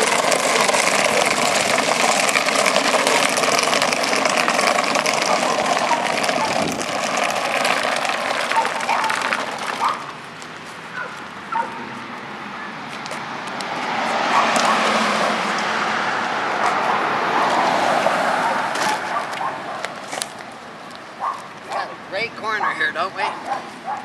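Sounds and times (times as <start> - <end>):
vehicle passing: 0.0 - 24.0.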